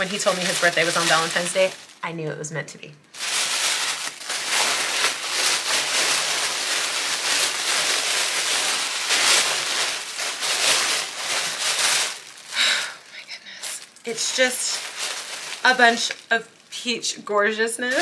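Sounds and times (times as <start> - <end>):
packaging crinkling and rustling: 0.0 - 2.1, 3.1 - 16.9.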